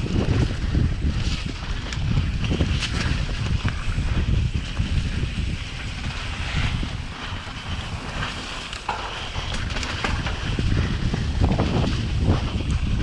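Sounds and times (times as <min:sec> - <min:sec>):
bike tyres rumbling on dirt: 0:00.0 - 0:13.0
wind buffeting microphone: 0:00.0 - 0:13.0.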